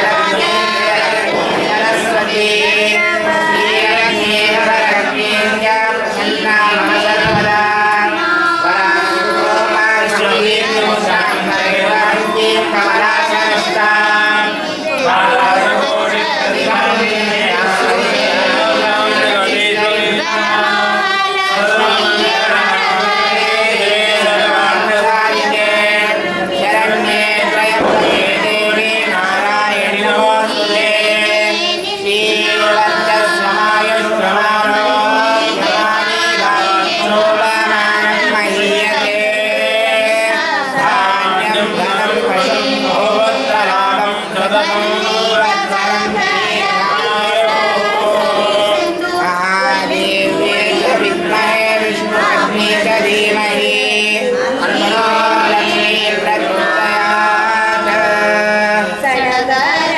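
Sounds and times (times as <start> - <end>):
voices chanting mantras: 0.0 - 59.9.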